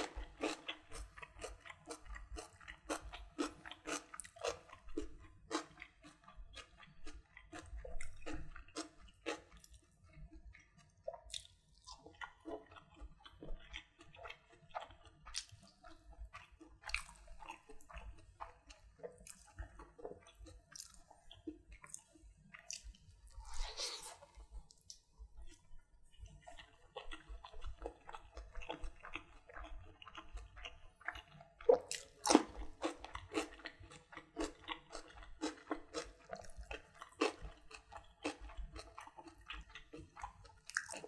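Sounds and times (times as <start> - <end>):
close chewing with mouth clicks: 0.0 - 41.0.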